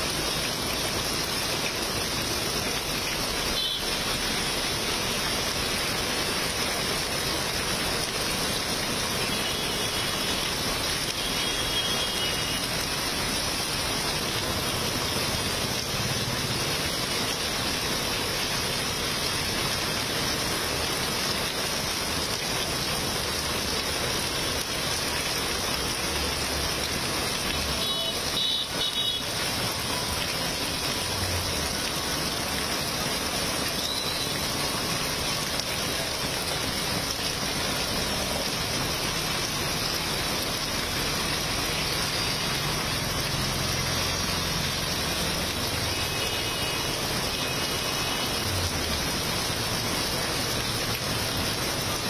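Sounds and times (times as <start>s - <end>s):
heavy rain pouring: 0.0s - 52.0s
vehicles passing through water: 0.0s - 52.0s.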